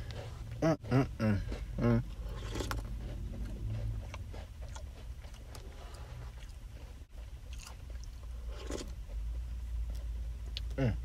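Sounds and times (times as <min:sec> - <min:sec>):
person chewing: 0:00.0 - 0:11.0
steady low hum: 0:00.0 - 0:11.0.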